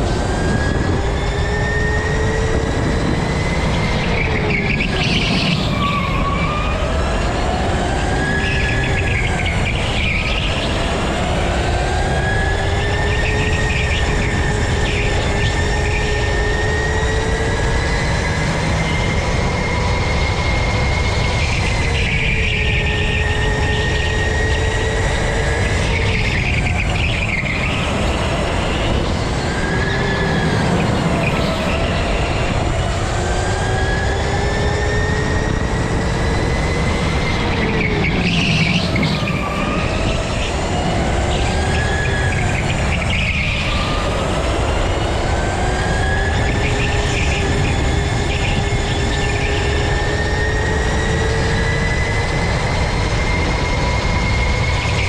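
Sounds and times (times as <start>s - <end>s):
go-kart motor whining: 0.0s - 55.0s
rumble of tyres: 0.0s - 55.0s
wind: 0.0s - 55.0s.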